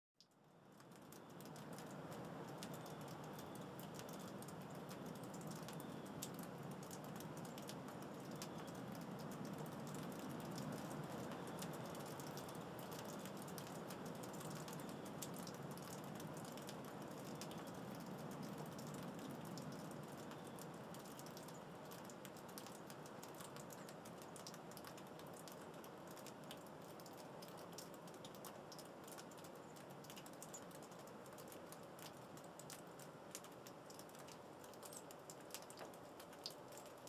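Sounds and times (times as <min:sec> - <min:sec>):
water dripping: 0:00.2 - 0:37.0.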